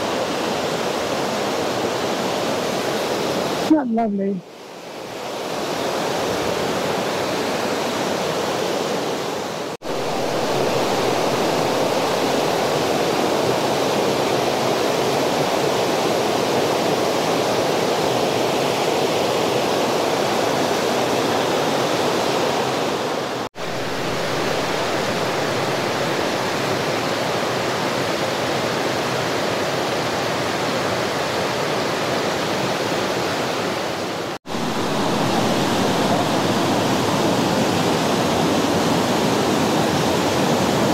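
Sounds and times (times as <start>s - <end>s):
river water rushing: 0.0s - 3.8s, 4.4s - 40.9s.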